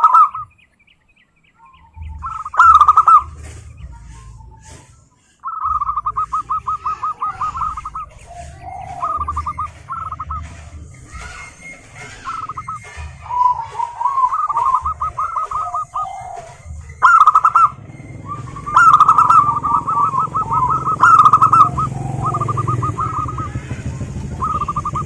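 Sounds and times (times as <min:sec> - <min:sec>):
doves cooing: 0:00.0 - 0:25.0
low steady hum: 0:00.0 - 0:25.0.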